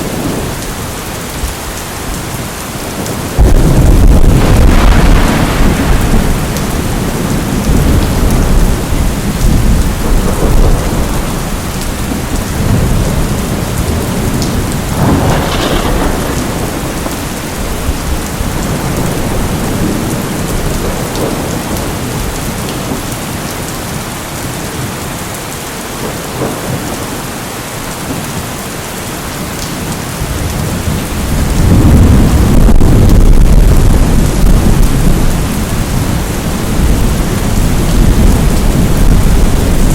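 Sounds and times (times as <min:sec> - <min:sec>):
thunder rumbling: 0:00.0 - 0:25.0, 0:25.9 - 0:27.4, 0:29.4 - 0:39.9
heavy rain: 0:00.0 - 0:39.9.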